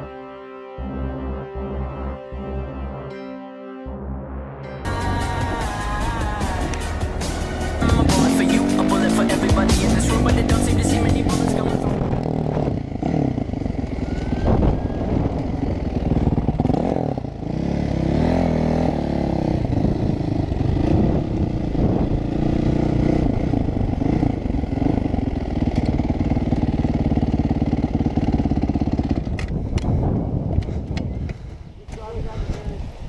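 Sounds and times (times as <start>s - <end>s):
motorcycle engine revving: 4.9s - 31.4s.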